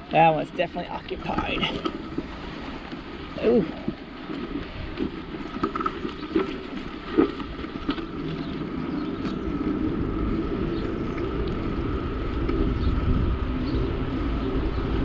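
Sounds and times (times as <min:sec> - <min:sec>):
bicycle tyres and frame rattling: 0:00.0 - 0:15.0
wind on microphone: 0:00.9 - 0:15.0.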